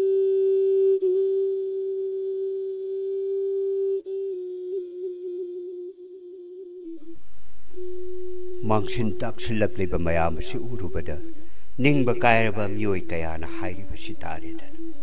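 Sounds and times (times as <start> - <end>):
flute-like wind instrument: 0.0 - 15.0.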